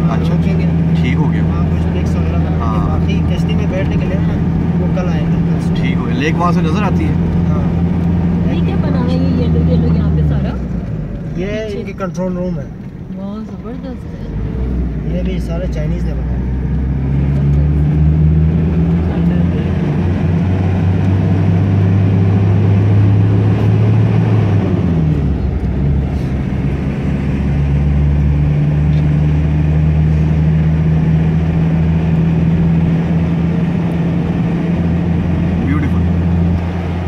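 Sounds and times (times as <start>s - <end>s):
car engine drone: 0.0s - 37.0s
tyre and road noise: 0.0s - 37.0s.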